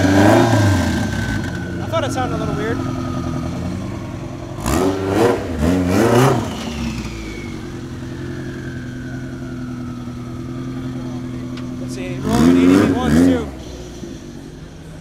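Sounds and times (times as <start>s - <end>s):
car engine revving and idling: 0.0s - 15.0s
high whine: 0.0s - 15.0s.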